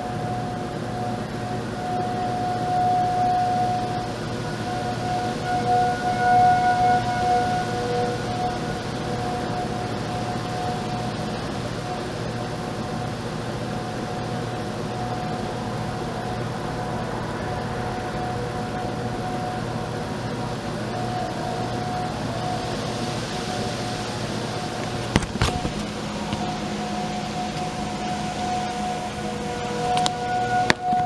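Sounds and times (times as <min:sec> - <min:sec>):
outdoor warning siren: 0:00.0 - 0:31.0
rushing background noise: 0:01.3 - 0:31.0.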